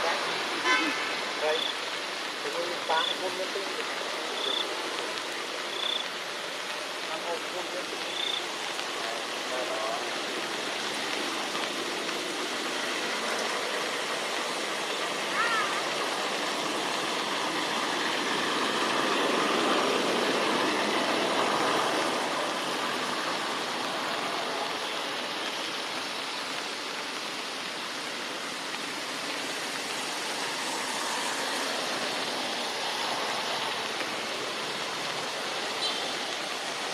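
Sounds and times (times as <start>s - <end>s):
steady rushing noise: 0.0s - 36.9s.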